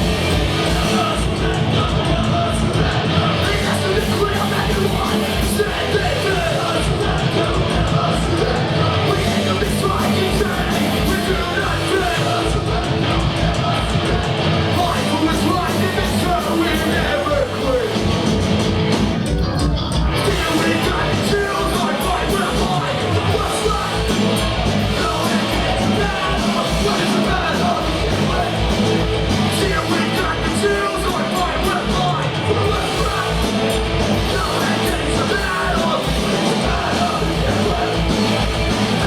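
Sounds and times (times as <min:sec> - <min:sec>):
shouted vocals: 0:00.0 - 0:18.4, 0:20.0 - 0:39.0
punk band playing live: 0:00.0 - 0:39.0.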